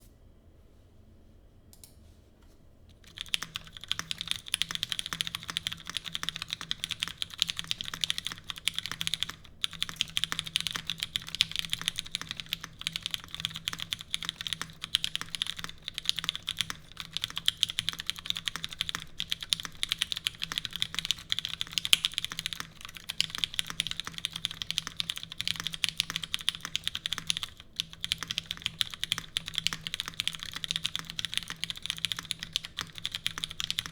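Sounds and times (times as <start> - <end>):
typing on mechanical keyboard: 2.9 - 33.9.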